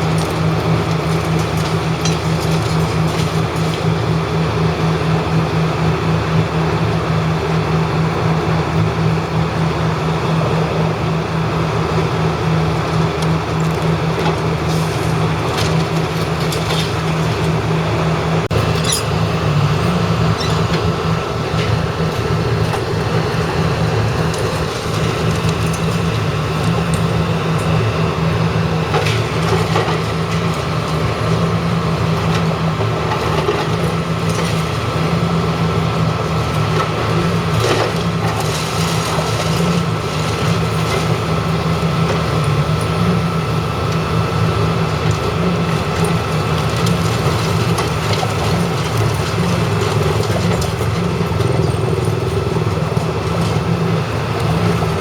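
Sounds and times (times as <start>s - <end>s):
heavy engine droning: 0.0s - 55.0s.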